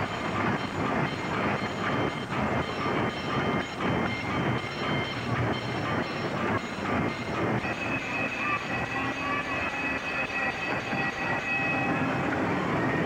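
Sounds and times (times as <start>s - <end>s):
ride train wheels clattering: 0.0s - 13.0s.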